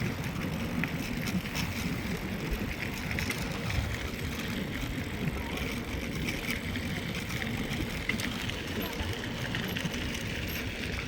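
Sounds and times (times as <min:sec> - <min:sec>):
bike tyres rumbling on trail: 0:00.0 - 0:11.0
gravel ticks: 0:00.0 - 0:11.0.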